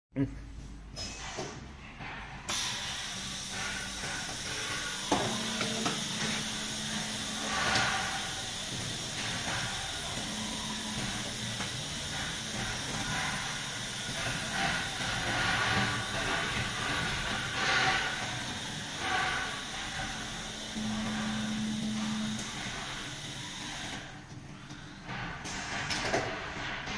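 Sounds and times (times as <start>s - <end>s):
low machine hum: 1.7s - 26.9s
cutting machine hissing: 2.5s - 24.2s.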